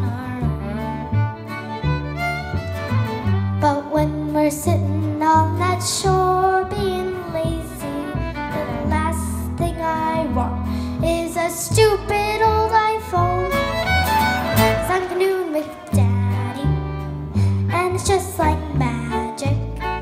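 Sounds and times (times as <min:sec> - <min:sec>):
girl singing: 0:00.0 - 0:01.3, 0:03.5 - 0:13.8, 0:14.7 - 0:20.0
acoustic folk band playing: 0:00.0 - 0:20.0.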